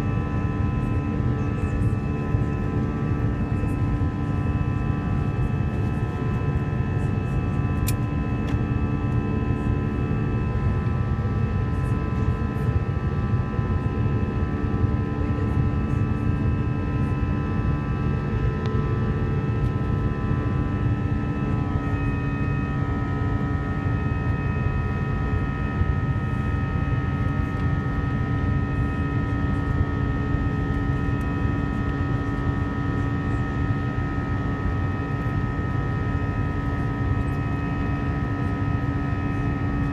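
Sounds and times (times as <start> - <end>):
aircraft cabin engine rush: 0.0 - 39.9.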